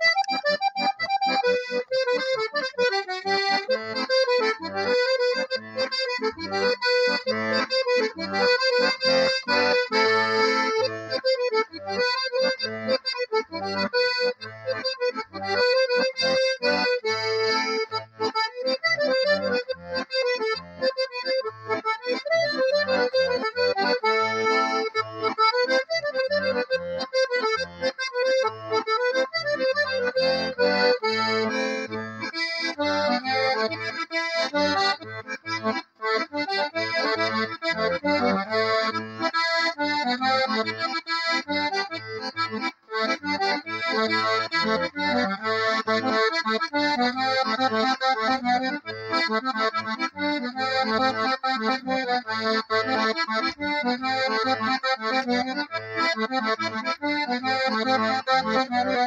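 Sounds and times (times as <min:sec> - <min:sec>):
button accordion playing: 0:00.0 - 0:59.0.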